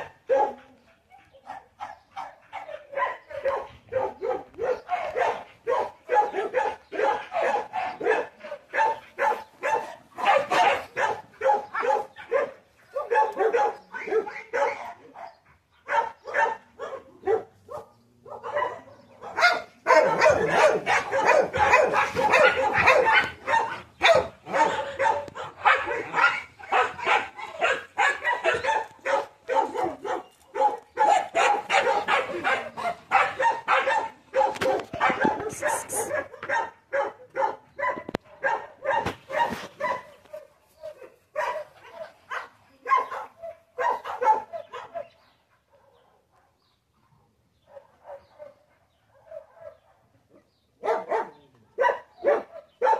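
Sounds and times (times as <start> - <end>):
dog barking: 0.0 - 46.7, 47.6 - 52.9.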